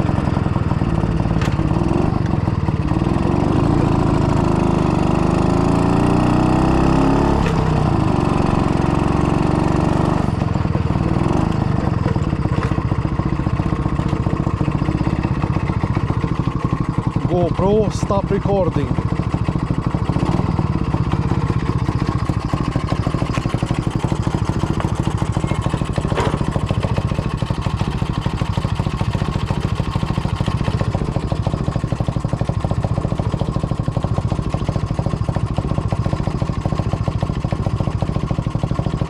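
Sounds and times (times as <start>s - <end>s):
two-stroke motorcycle engine idling: 0.0s - 39.0s.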